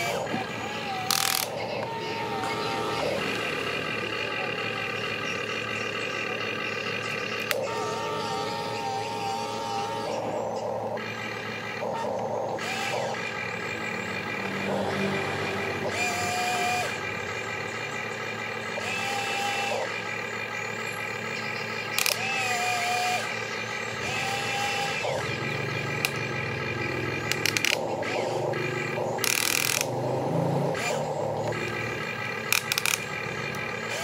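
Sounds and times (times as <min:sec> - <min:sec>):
electric motors whining: 0:00.0 - 0:34.0
steady mechanical hum: 0:00.0 - 0:34.0.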